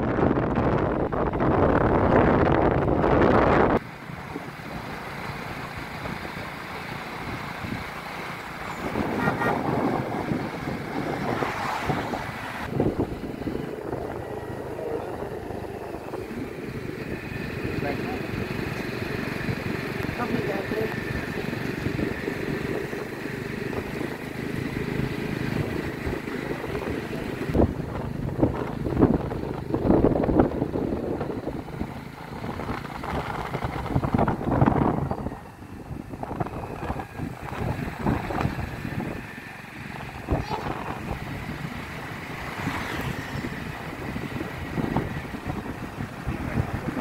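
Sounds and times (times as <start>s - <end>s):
passing traffic: 0.0s - 47.0s
vehicle road noise: 0.0s - 47.0s
wind buffeting microphone: 0.0s - 47.0s.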